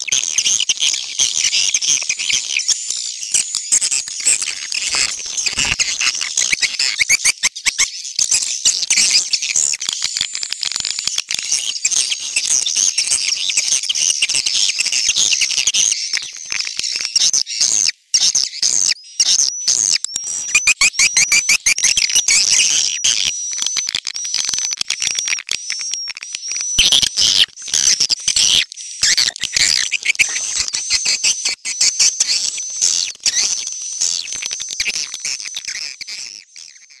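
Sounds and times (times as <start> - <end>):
swiftlets twittering and clicking: 0.0 - 37.0.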